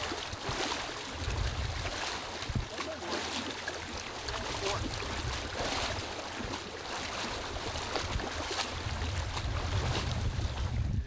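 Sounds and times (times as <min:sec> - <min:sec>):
wind rumble on microphone: 0:00.0 - 0:02.8, 0:04.3 - 0:11.0
footsteps splashing in water: 0:00.0 - 0:10.9.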